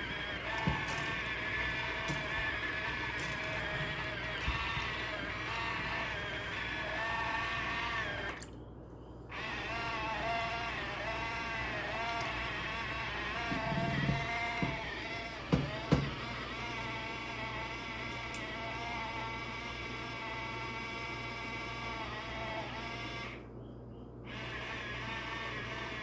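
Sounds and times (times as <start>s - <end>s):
appliance motor whining: 0.0s - 8.5s, 9.3s - 23.6s, 24.2s - 26.0s.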